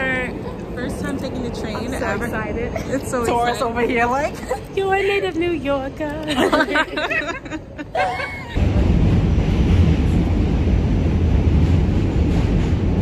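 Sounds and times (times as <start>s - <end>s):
subway car running: 0.0s - 13.0s.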